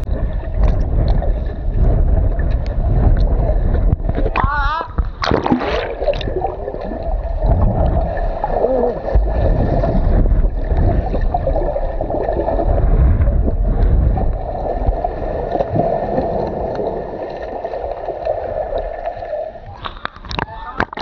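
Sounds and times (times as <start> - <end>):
heavy low rumble: 0.0 - 17.2
underwater churning and bubbling: 0.0 - 21.0.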